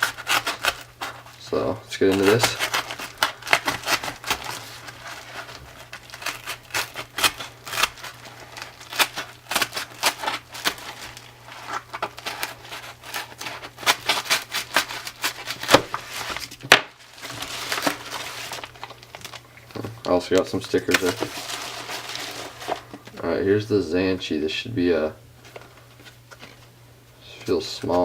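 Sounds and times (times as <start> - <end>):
packaging crinkling and ripping: 0.0 - 23.3.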